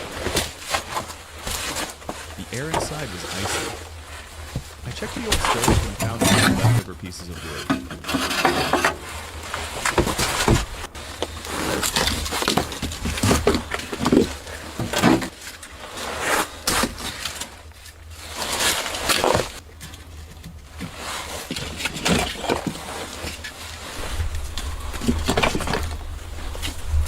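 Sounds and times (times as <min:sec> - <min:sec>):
firewood knocking and scraping: 0:00.0 - 0:27.0.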